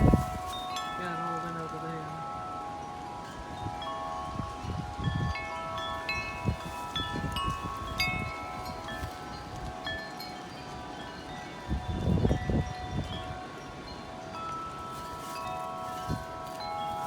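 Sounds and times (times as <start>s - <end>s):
wind buffeting microphone: 0.0s - 17.0s
wind chimes ringing: 0.0s - 17.0s.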